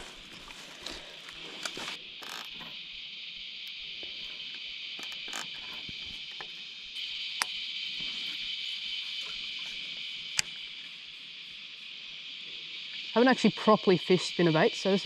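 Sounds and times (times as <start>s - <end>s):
cicadas singing: 0.0s - 15.0s.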